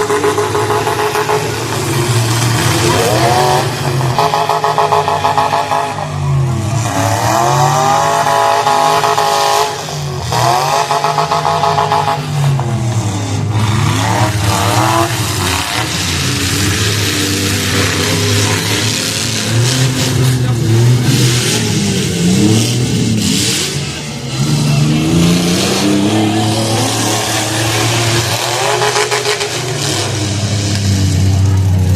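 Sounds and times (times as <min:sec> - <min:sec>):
car engines revving: 0:00.0 - 0:31.9.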